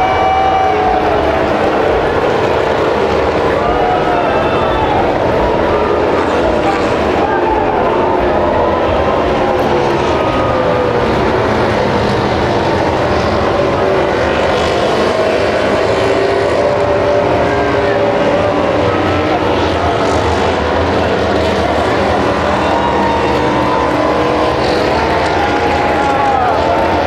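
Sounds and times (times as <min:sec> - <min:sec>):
loud din from track: 0:00.0 - 0:27.0
racing motorcycle engines: 0:00.0 - 0:27.0.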